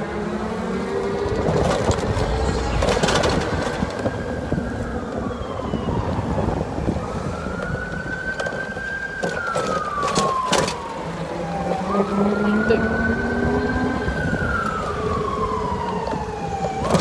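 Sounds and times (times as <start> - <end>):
siren wailing: 0.0 - 17.0
street traffic: 0.0 - 17.0.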